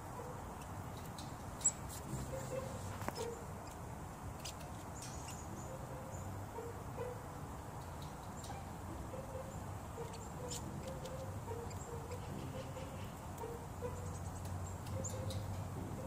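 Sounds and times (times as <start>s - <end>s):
small clicks and crackles: 0.0s - 5.5s, 7.7s - 9.3s, 10.0s - 16.0s.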